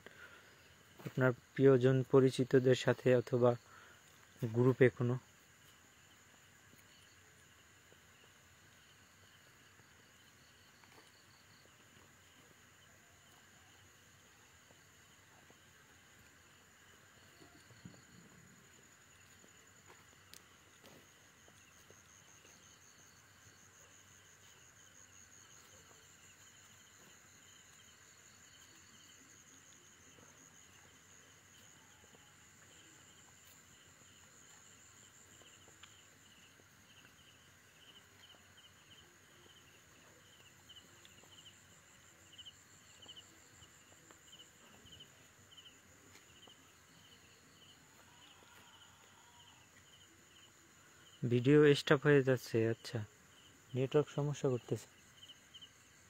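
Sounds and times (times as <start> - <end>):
night insects trilling: 0.0 - 56.0
pulsing insect chirp: 0.0 - 56.0.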